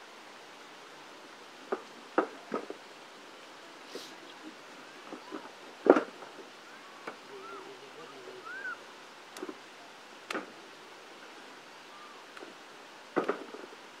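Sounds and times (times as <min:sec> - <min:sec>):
faint distant voices: 0:00.6 - 0:13.9.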